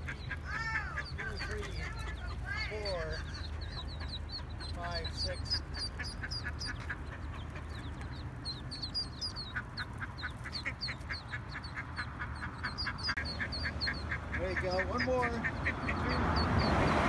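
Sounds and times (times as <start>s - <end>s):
ducklings peeping: 0.0s - 17.0s.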